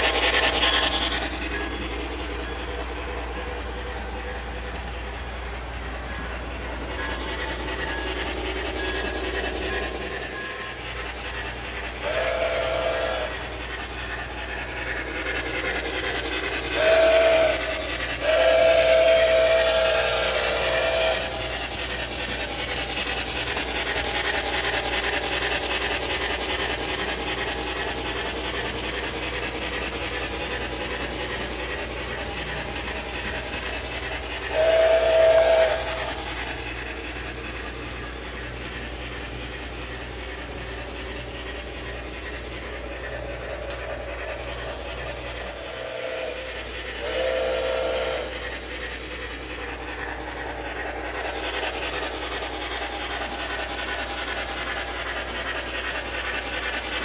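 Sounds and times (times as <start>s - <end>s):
multi-tone train whistle: 0.0s - 57.0s
steam locomotive chuffing: 0.0s - 57.0s.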